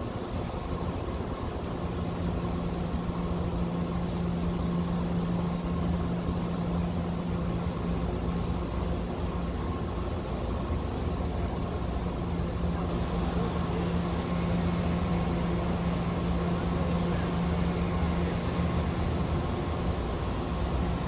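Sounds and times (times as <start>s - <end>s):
low mechanical drone: 0.0s - 21.0s
street noise: 0.0s - 21.0s.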